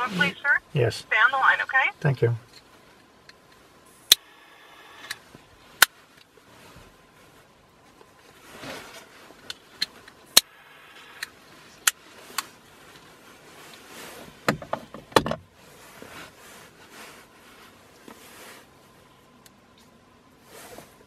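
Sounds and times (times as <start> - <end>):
soft rustling: 0.0 - 4.0, 5.2 - 21.0.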